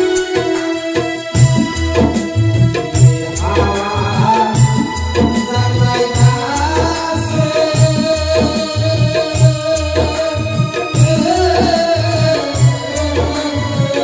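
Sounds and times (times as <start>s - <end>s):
electronic keyboard: 0.0s - 14.0s
man singing into a microphone: 0.0s - 14.0s
repeating drum beat: 0.0s - 14.0s.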